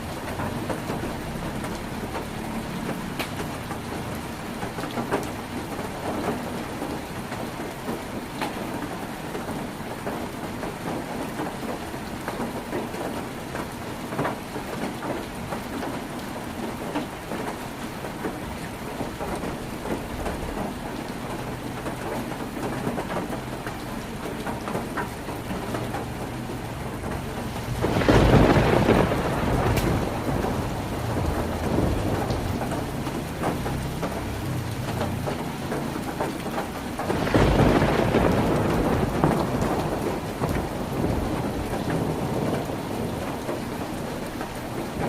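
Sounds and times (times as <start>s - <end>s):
heavy rain on a tin roof: 0.0s - 45.0s.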